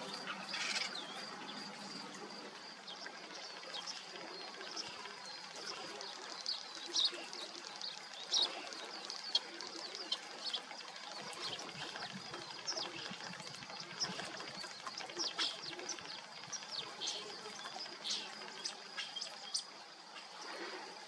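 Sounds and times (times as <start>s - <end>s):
birds giving thin high calls: 0.0s - 20.6s.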